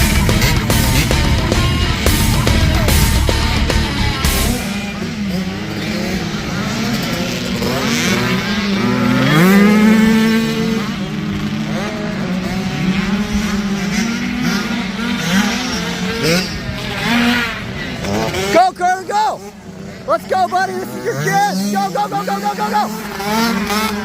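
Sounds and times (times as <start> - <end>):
motocross bike engines racing: 0.0 - 24.0.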